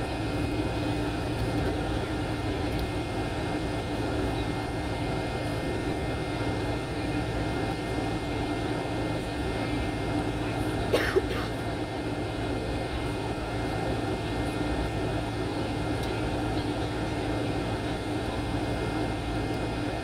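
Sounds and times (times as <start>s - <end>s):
jet engines in cabin: 0.0s - 20.0s.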